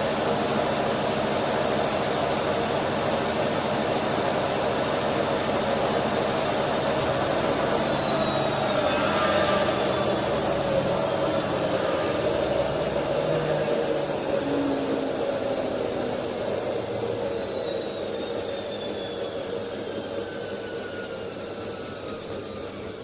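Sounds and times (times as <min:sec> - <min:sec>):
thin high whine: 0:00.0 - 0:22.8
washing machine running: 0:00.0 - 0:23.0.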